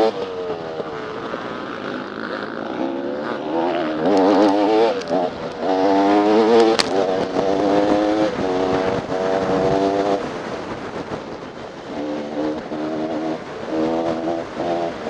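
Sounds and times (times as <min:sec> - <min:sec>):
dirt bike engine revving: 0:00.0 - 0:10.5, 0:11.8 - 0:15.0.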